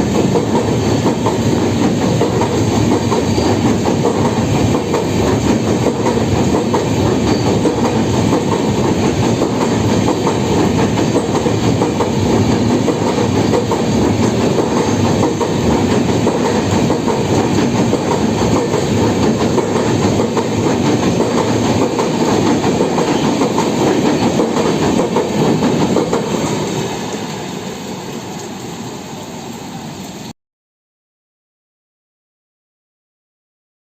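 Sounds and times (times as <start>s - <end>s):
train wheels clattering: 0.0s - 28.6s.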